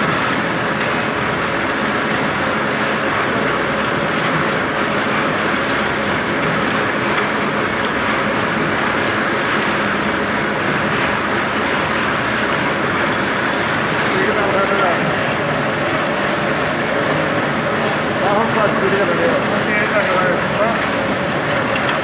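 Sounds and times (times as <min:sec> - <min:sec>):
drilling machine running: 0:00.0 - 0:22.0.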